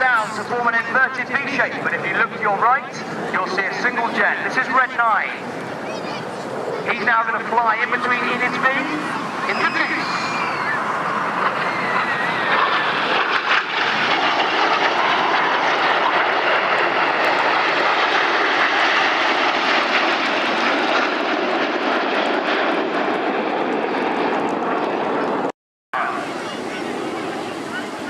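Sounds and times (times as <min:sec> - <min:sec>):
jets flying past: 0:00.0 - 0:28.0.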